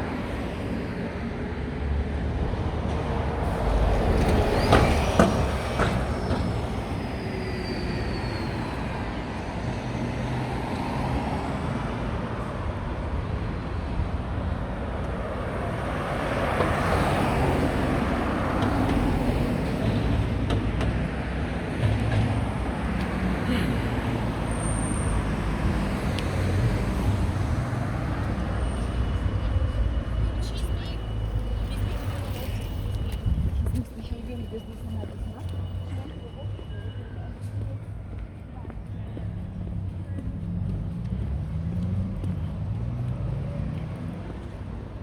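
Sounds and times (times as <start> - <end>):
passing vehicles rumble: 0.0 - 45.0.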